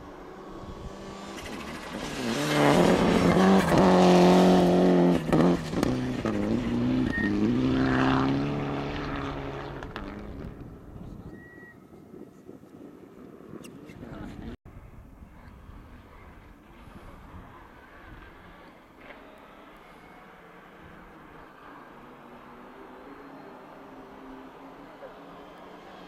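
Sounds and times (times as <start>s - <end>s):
rally car engine at full throttle: 0.0s - 11.7s, 15.3s - 26.0s.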